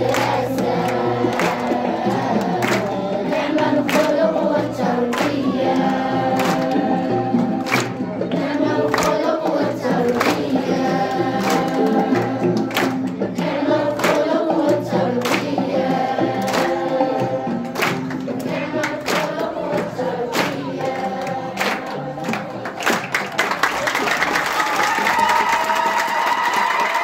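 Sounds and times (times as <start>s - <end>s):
group singing in chorus: 0.0s - 23.4s
music with sharp beat: 0.0s - 23.6s.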